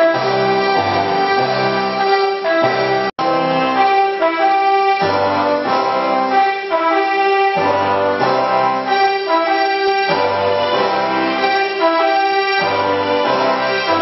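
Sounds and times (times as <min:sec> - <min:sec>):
brass band playing anthem: 0:00.0 - 0:14.0.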